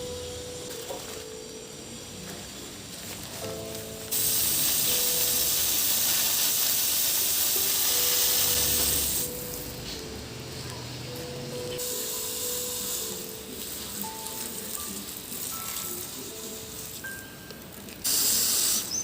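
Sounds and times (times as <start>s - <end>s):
loud steady hiss: 0.0s - 19.0s
soft background music: 0.0s - 19.0s.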